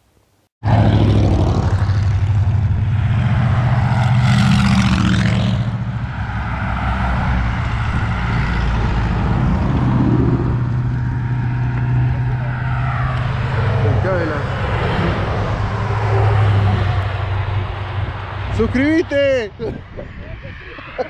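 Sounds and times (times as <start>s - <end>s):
rushing wind noise: 0.6s - 21.0s
engine running steadily: 0.7s - 21.0s.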